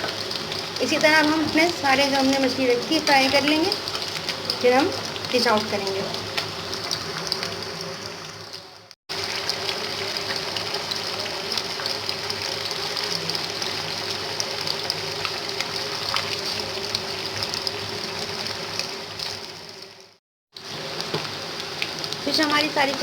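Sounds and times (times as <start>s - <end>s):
food deep-frying in hot oil: 0.0s - 23.0s.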